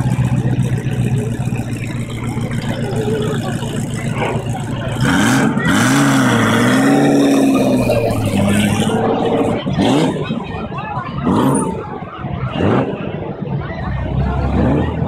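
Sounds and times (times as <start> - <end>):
sports car engine idling and revving: 0.0 - 15.0.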